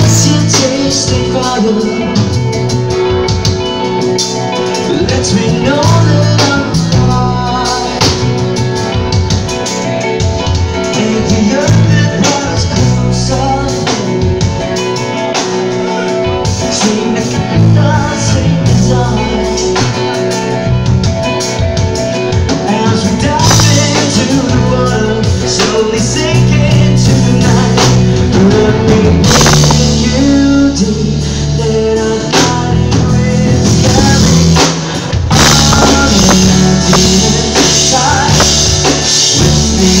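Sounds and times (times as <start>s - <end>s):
man singing: 0.0s - 40.0s
rock band playing: 0.0s - 40.0s.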